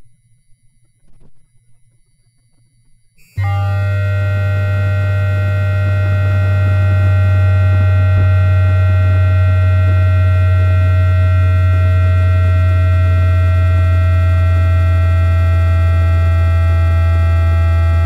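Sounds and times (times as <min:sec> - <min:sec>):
steady electric whining tones: 0:00.0 - 0:18.0
loud steady low hum: 0:03.2 - 0:18.0.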